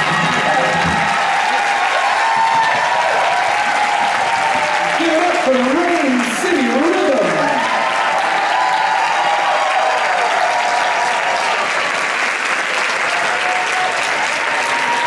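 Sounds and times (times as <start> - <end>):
whoops and cheers: 0.0 - 12.2, 12.8 - 15.0
audience applauding: 0.0 - 15.0.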